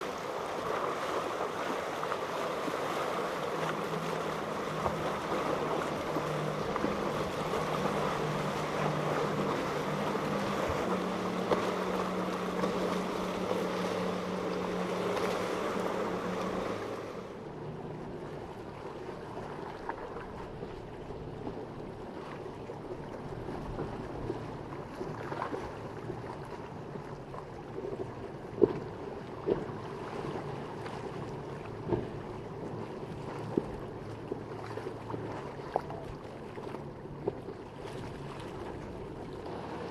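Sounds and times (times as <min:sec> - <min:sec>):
boat engines humming: 0:00.0 - 0:39.9
rough water washing: 0:00.0 - 0:39.9
wind: 0:00.0 - 0:39.9.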